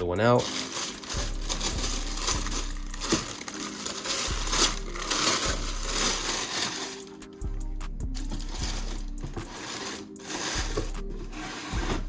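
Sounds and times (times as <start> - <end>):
soft background music: 0.0 - 12.0
packaging crinkling and rustling: 0.3 - 7.3, 8.2 - 11.0.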